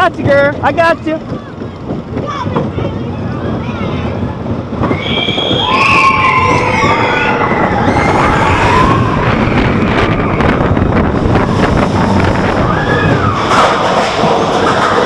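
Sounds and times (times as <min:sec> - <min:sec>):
roller coaster rattling on track: 0:00.0 - 0:15.0
wind on microphone: 0:00.0 - 0:15.0.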